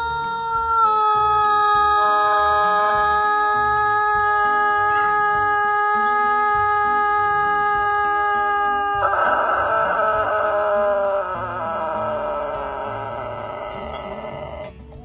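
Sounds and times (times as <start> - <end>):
rooster crowing: 0.0 - 14.8
background music: 0.0 - 15.0.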